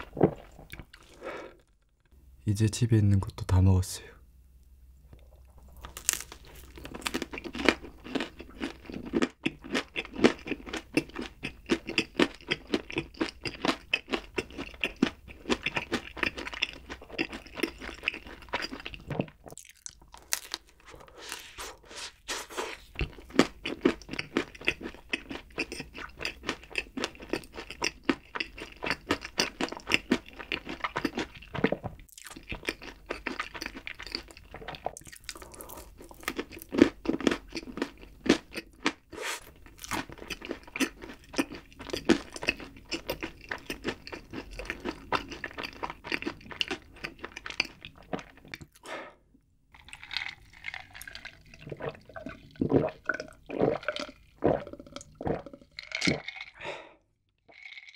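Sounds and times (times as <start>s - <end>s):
chewing crispy fried chicken: 5.2s - 48.9s, 49.7s - 56.6s, 57.5s - 57.9s.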